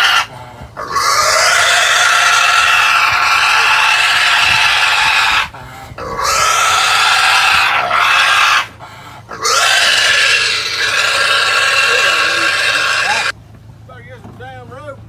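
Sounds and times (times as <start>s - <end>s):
pig squealing: 0.0s - 13.4s.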